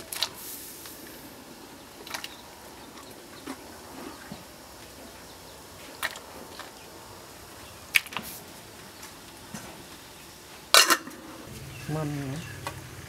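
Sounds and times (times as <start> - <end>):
soup simmering with hiss: 0.0 - 10.8.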